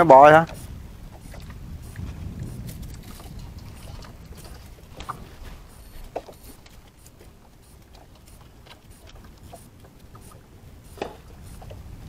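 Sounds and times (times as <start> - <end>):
wind and water rumble: 0.0 - 12.0.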